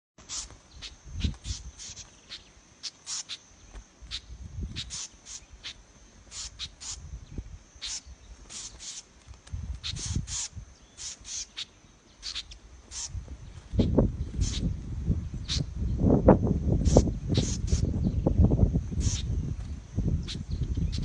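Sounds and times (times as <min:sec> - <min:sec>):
birds giving sharp alarm chirps: 0:00.2 - 0:21.0.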